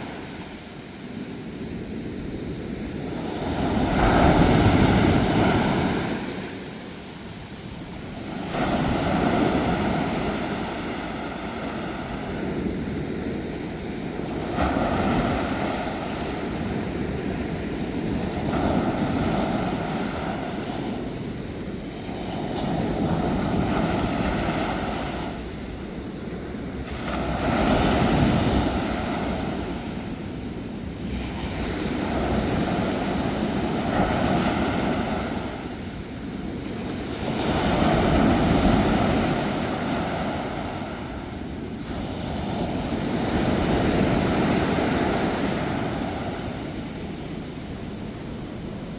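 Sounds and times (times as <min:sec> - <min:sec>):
ocean waves breaking on shore: 0:00.0 - 0:48.9.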